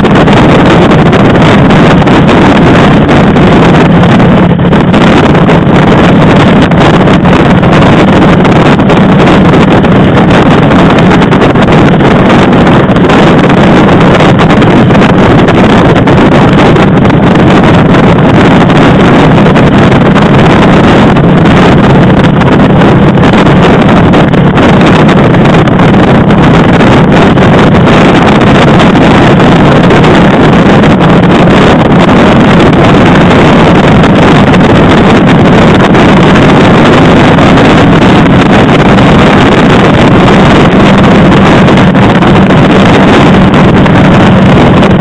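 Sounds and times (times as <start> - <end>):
motorcycle engine running: 0.0 - 45.0
wind noise on microphone: 0.0 - 45.0.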